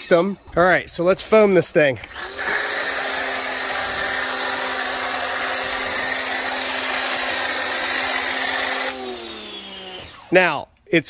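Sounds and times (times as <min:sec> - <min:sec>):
pressure washer running: 0:01.3 - 0:10.5.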